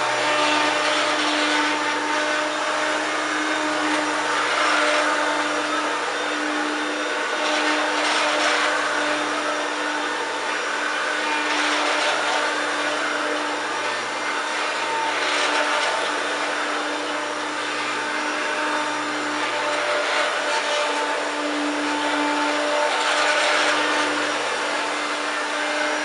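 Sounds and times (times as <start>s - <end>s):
upright vacuum cleaner running: 0.0s - 26.0s.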